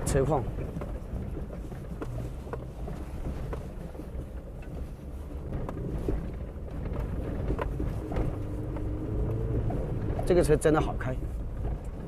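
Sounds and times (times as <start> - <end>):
engine and tyres rumbling: 0.0 - 12.0
faint knocks from bumps: 0.5 - 10.4.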